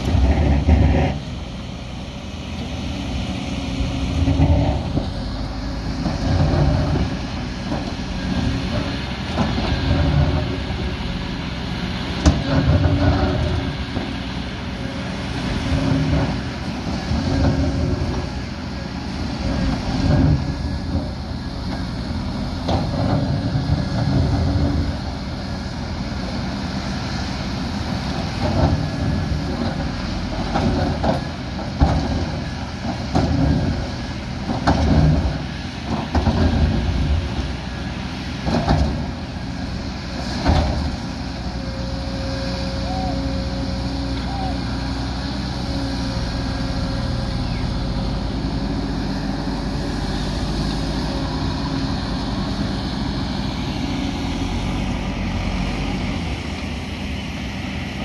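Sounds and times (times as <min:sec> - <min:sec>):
diesel excavator engines working: 0:00.0 - 0:58.0.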